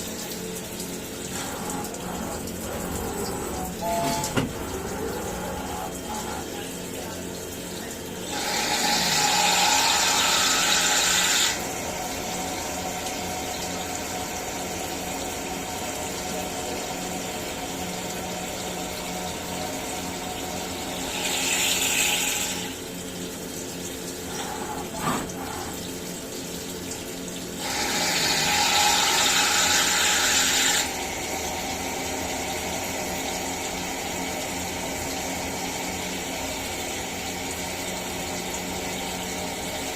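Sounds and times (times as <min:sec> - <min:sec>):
milling machine humming: 0:00.0 - 0:39.9.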